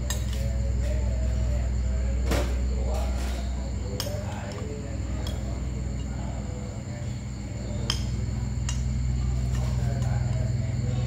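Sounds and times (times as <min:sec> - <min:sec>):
faint voices: 0:00.0 - 0:11.0
low background hum: 0:00.0 - 0:11.0.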